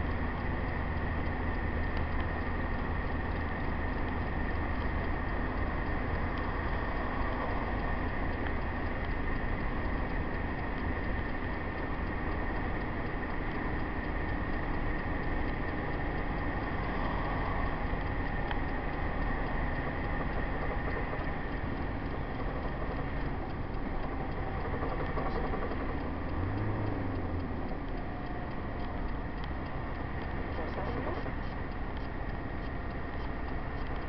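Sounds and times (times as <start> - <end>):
road and engine noise: 0.0 - 34.0
thin steady whine: 0.0 - 34.0.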